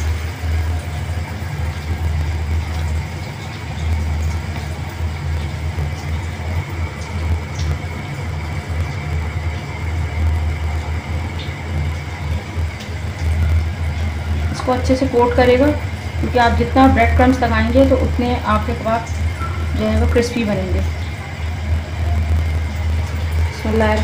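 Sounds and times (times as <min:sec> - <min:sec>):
high-pitched whine: 0:00.0 - 0:24.0.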